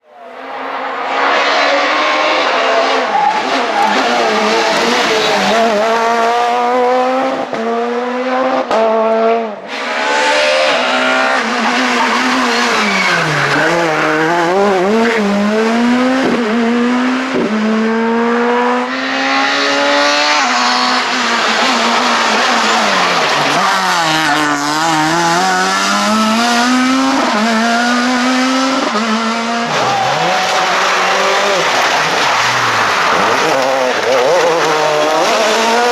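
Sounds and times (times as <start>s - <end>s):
rally car engine revving: 0.1s - 35.9s.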